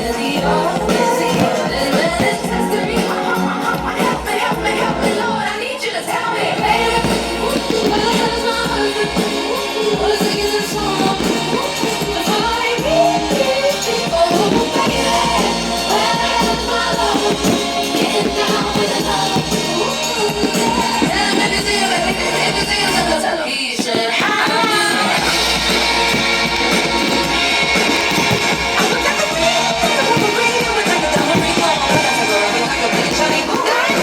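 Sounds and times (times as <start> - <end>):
music with singing voices: 0.0 - 34.0.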